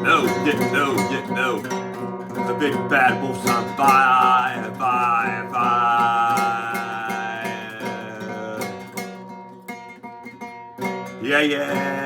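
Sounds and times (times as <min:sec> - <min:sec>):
person singing: 0:00.0 - 0:09.3, 0:11.2 - 0:12.0
acoustic guitar strumming: 0:00.0 - 0:12.0.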